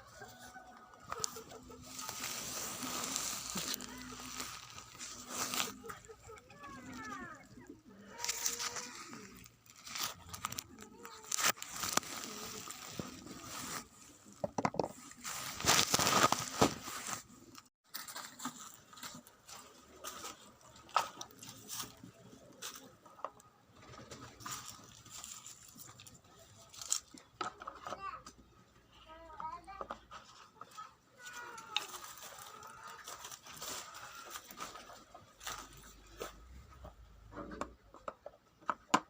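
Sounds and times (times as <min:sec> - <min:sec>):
rustling crunching and clicking: 0:00.0 - 0:28.2, 0:29.7 - 0:38.8.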